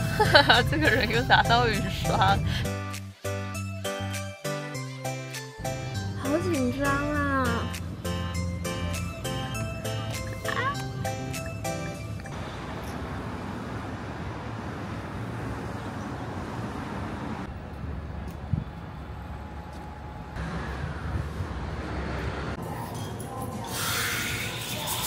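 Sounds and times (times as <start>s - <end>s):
traffic road noise: 0.0s - 2.7s, 5.6s - 25.0s.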